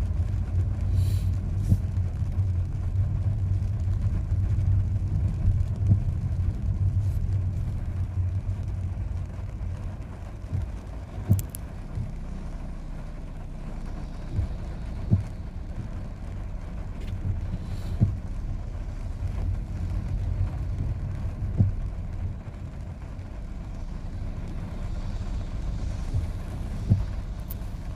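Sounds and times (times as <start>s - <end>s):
car interior road rumble: 0.0s - 27.9s.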